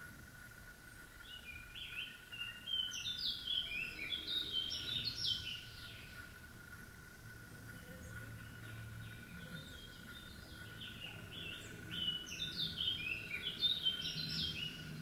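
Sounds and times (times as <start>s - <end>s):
faint high hum: 0.0s - 15.0s
songbird singing: 0.0s - 15.0s.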